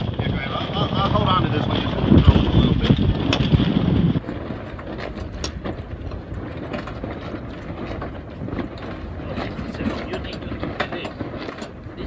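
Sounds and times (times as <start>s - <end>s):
steady wind rush: 0.0s - 12.0s
wind buffeting microphone: 0.0s - 12.0s.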